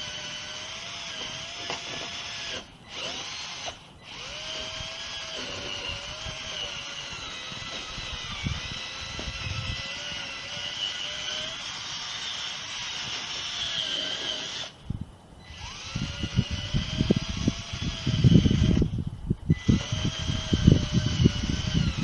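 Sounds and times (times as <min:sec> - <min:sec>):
drill motor whining: 0:00.0 - 0:22.0.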